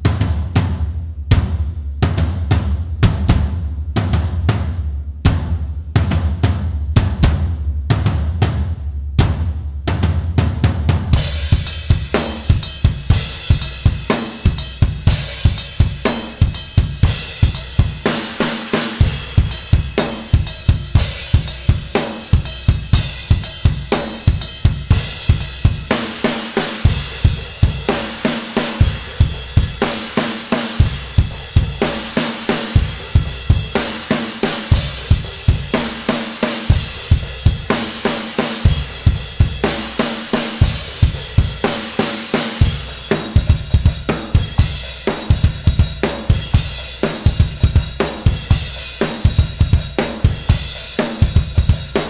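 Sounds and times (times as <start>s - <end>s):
bass drum: 0.0s - 52.0s
snare drum: 9.2s - 52.0s.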